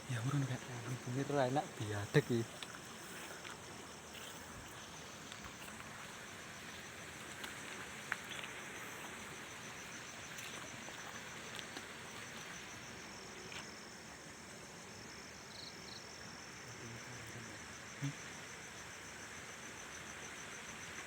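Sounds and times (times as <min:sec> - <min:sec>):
faint hiss: 0:00.0 - 0:21.0
insects trilling: 0:00.0 - 0:21.0.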